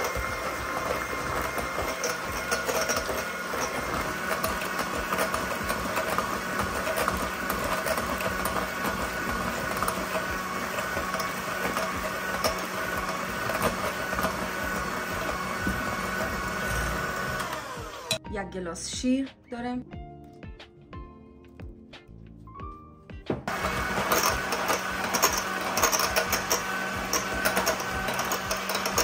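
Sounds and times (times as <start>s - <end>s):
electric hand mixer whipping: 0.0s - 18.2s, 23.4s - 29.0s.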